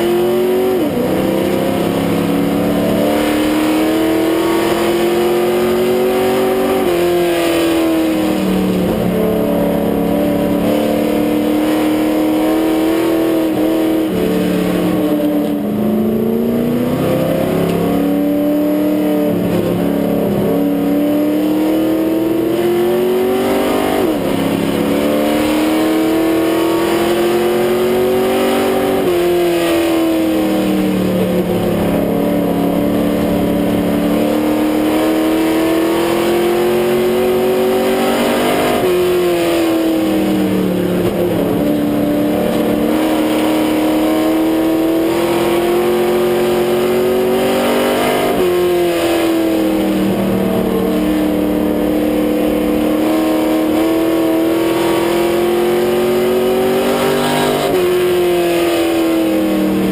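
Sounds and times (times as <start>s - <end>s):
race car engine at speed: 0.0s - 59.9s.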